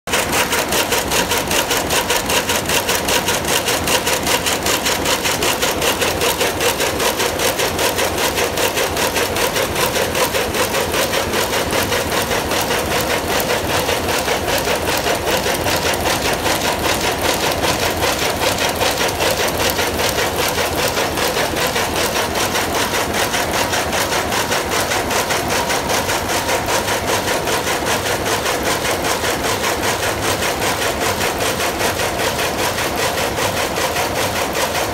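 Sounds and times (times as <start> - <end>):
loom mechanical clatter: 0.0 - 34.9.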